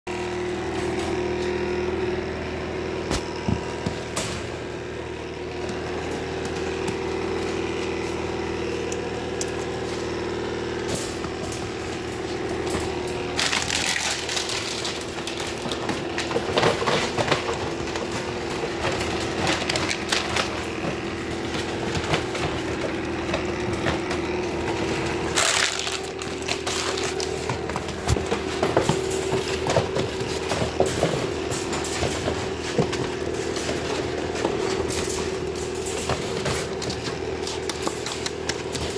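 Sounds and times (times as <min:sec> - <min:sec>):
steady hum: 0:00.1 - 0:38.9.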